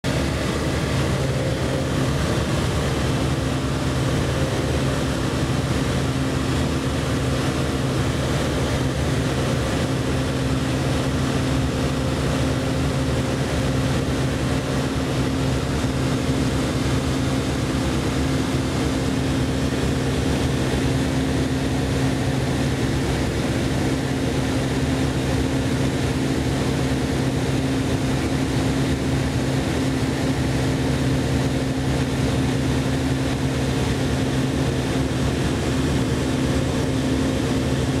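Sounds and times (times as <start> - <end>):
aircraft engine and propeller droning: 0.0 - 38.0.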